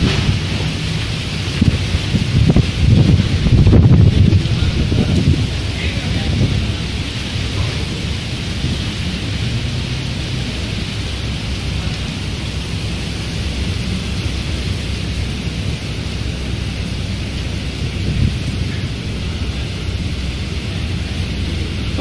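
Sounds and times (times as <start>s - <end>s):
heavy rain pouring: 0.0s - 22.0s
low rumble of wind: 0.0s - 22.0s.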